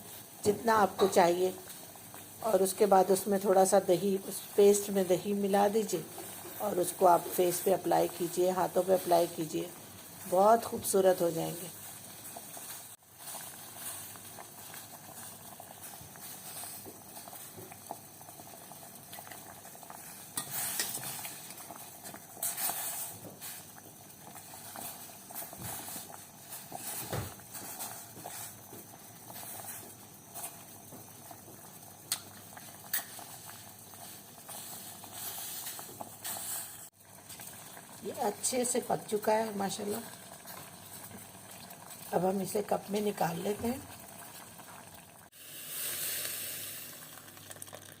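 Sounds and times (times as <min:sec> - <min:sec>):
pot of water boiling: 0:00.0 - 0:48.0.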